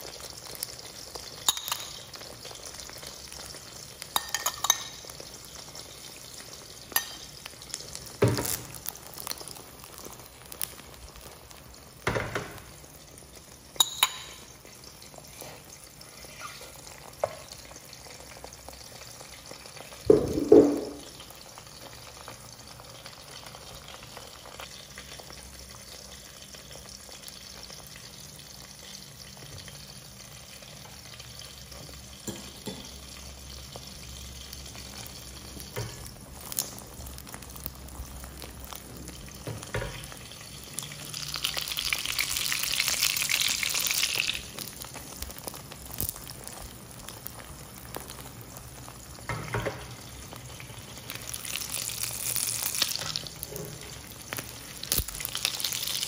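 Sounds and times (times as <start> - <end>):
omelette sizzling in a pan: 0.0 - 56.0.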